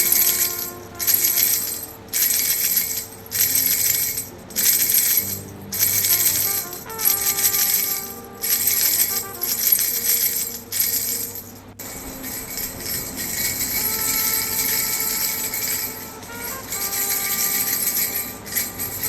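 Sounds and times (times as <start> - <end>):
baby rattle bells jingling: 0.0 - 19.0
slow melody of held notes: 0.0 - 19.0.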